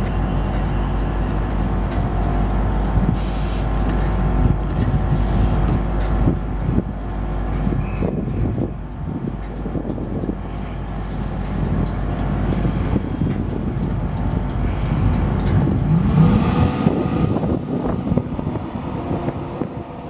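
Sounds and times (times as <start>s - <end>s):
electric locomotive motor hum: 0.0s - 20.0s
wheel and rail noise: 0.0s - 20.0s.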